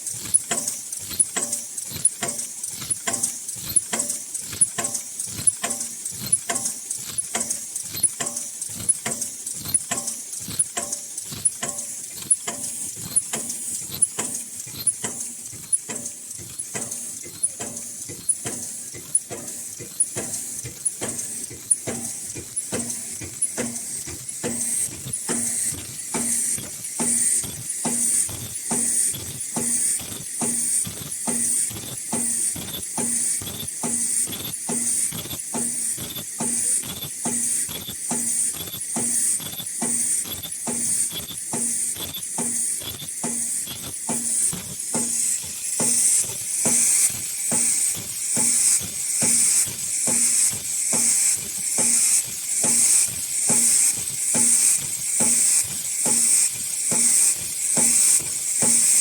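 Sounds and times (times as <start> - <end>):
machine clicking and hissing: 0.0 - 59.0.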